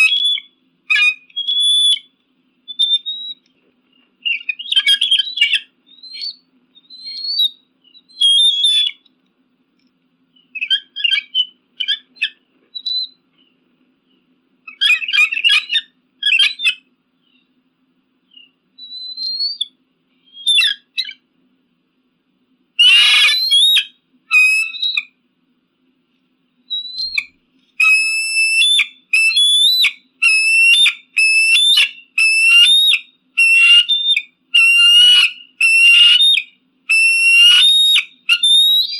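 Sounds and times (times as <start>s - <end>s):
eagle calling: 0.0s - 3.5s, 4.2s - 9.1s, 10.4s - 13.2s, 14.7s - 17.5s, 18.3s - 21.3s, 22.8s - 25.2s, 26.7s - 38.9s.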